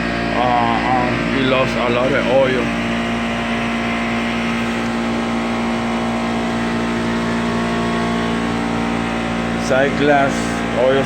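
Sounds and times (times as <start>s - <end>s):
compressor humming: 0.0s - 11.0s.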